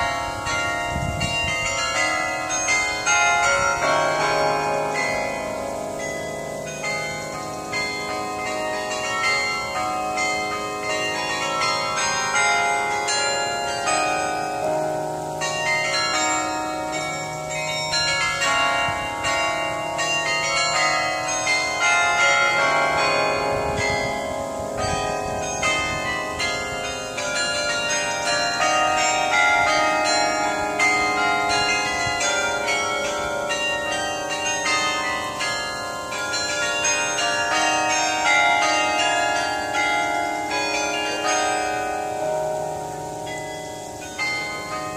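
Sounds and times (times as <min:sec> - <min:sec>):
carillon bells playing a tune: 0:00.0 - 0:44.9.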